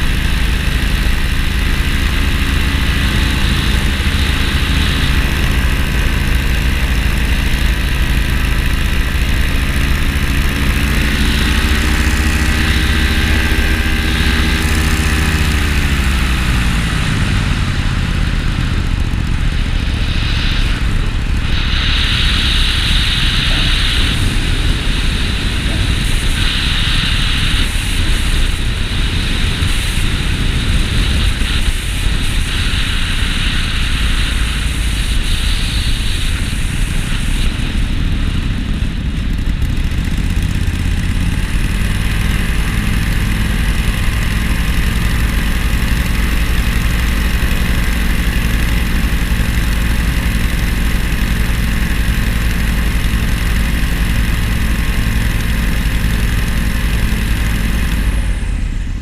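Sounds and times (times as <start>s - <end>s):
engine running: 0.0s - 59.0s
low hum: 0.0s - 59.0s
noisy rush: 0.0s - 59.0s.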